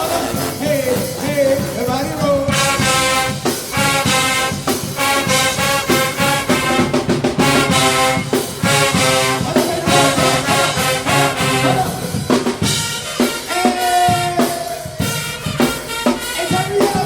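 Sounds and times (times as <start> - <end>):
drums: 0.0 - 17.0
marching band brass: 0.0 - 17.0.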